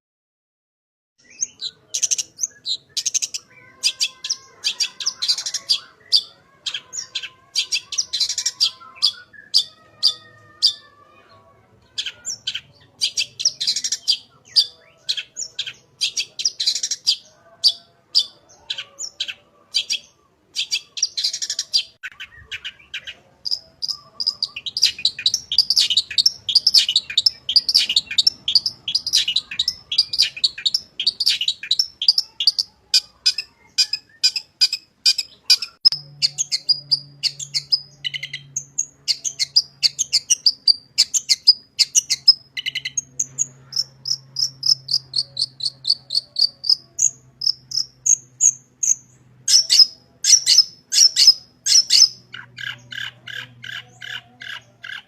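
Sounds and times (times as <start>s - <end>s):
bird chirping: 1.2s - 55.0s.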